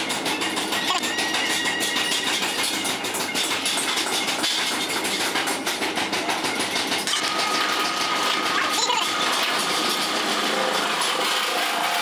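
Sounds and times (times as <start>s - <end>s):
machine rattling: 0.0s - 12.0s.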